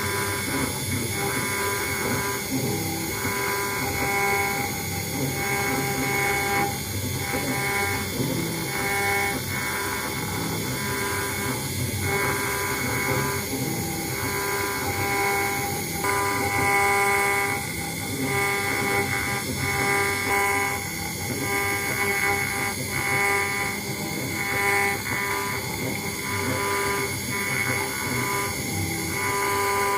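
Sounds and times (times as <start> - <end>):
router spindle whine: 0.0 - 29.9
stepper motor tones: 0.0 - 29.9.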